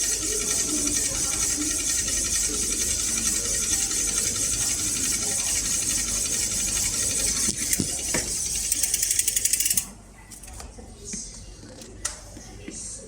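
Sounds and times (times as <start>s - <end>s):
mechanism buzzing and clicking: 0.0s - 10.5s.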